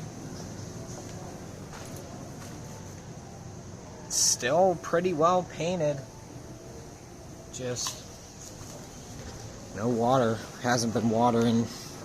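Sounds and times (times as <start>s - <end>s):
low even hum: 0.0s - 12.0s.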